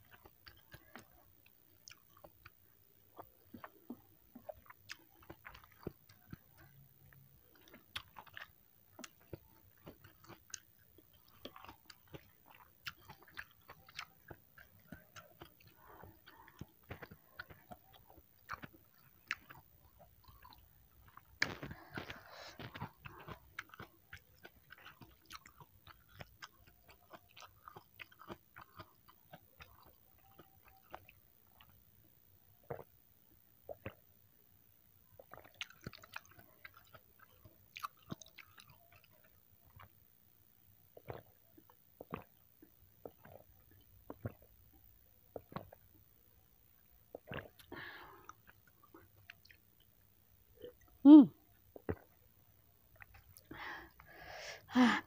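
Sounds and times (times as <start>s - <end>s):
chewing noodles: 0.0s - 31.8s, 32.6s - 32.9s, 35.2s - 40.0s, 40.9s - 46.0s, 47.0s - 52.2s, 52.9s - 54.2s.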